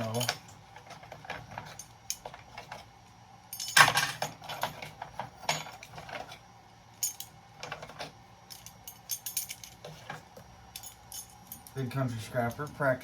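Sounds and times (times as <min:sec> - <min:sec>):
metal scraps clinking and rattling: 0:00.0 - 0:02.8, 0:03.6 - 0:06.4, 0:07.0 - 0:11.8.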